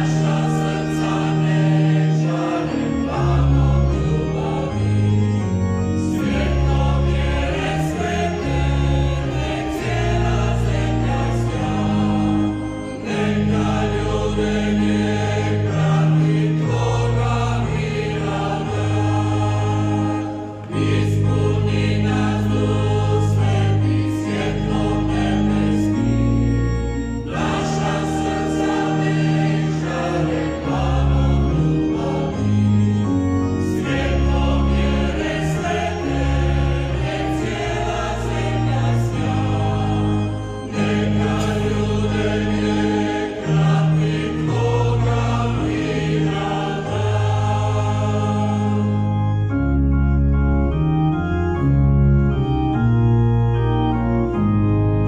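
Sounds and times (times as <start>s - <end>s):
choir singing: 0.0s - 49.5s.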